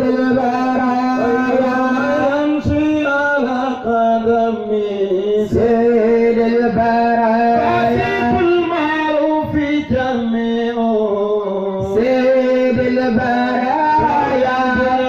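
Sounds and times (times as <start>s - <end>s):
man singing a devotional chant: 0.0s - 15.0s.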